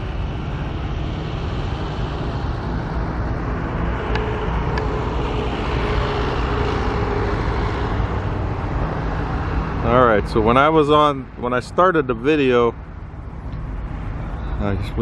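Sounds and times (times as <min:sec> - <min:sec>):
passing vehicles rumbling: 0:00.0 - 0:15.0.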